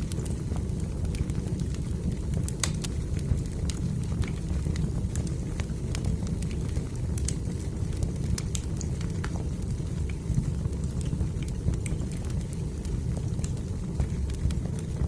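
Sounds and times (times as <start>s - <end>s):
fire crackling: 0.0s - 15.0s
low steady rumble: 0.0s - 15.0s.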